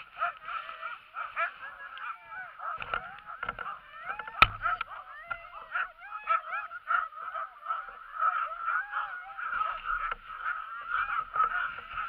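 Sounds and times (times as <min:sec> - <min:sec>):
sled dogs yelping and howling: 0:00.0 - 0:12.0.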